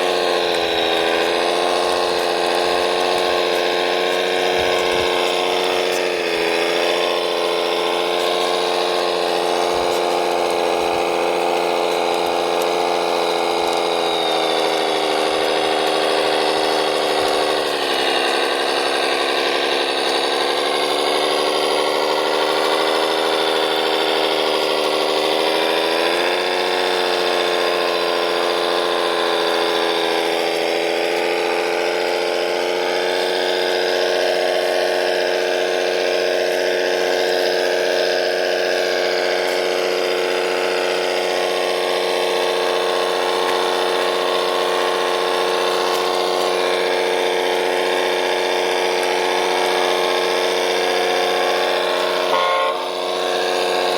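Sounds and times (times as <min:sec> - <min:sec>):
electric motors whining: 0:00.0 - 0:53.9.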